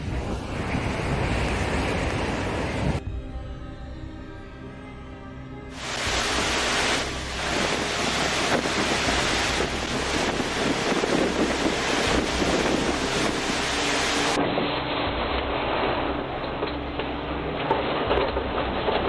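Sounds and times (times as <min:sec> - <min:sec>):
storm wind on microphone: 0:00.0 - 0:03.0, 0:05.7 - 0:19.0.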